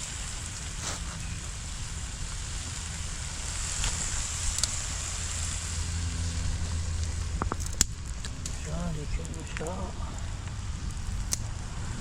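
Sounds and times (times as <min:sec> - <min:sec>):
high hiss: 0:00.0 - 0:12.0
train rumbling past: 0:01.7 - 0:12.0.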